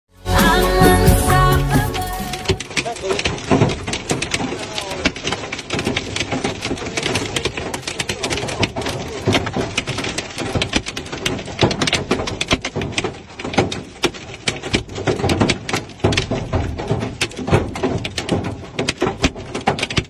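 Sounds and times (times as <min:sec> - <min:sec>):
windshield cracking: 0:00.8 - 0:20.0
hailstones hitting a vehicle: 0:02.4 - 0:20.0.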